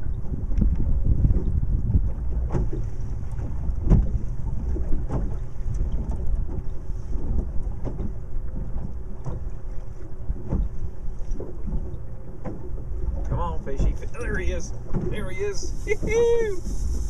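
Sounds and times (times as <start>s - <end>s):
waves slapping boat hull: 0.0s - 17.0s
wind buffeting microphone: 0.0s - 17.0s.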